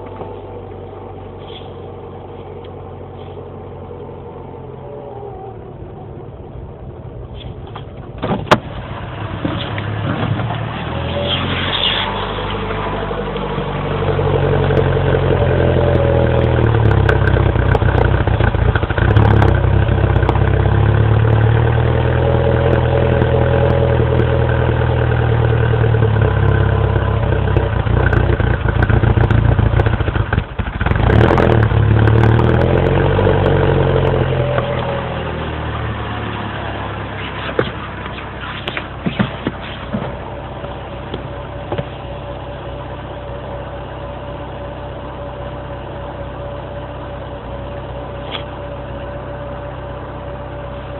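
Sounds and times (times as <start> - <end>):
car engine running rough: 0.0 - 50.9.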